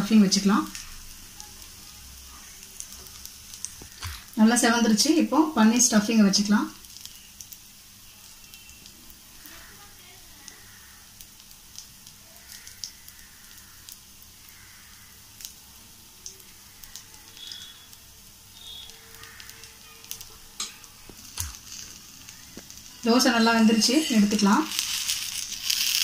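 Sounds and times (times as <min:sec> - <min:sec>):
food sizzling faintly: 0:00.0 - 0:26.0.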